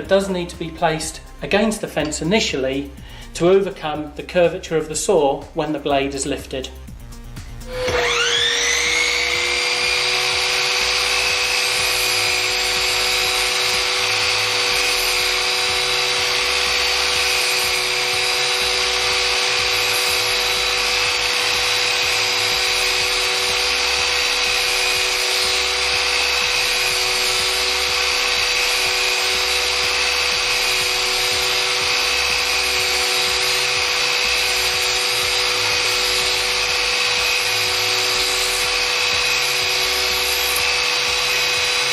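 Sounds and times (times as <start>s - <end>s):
mitre saw motor whining: 7.4s - 41.9s
saw blade cutting timber: 7.6s - 41.9s.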